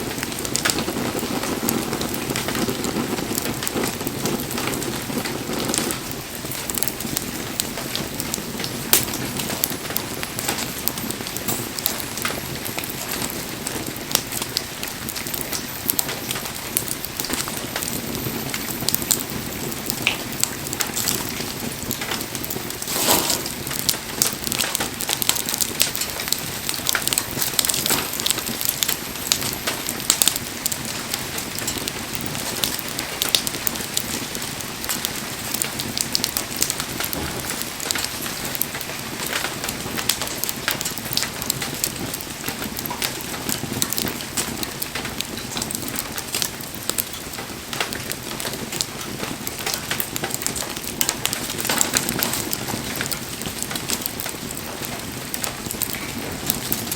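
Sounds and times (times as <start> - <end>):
bonfire crackling and popping: 0.0 - 56.9.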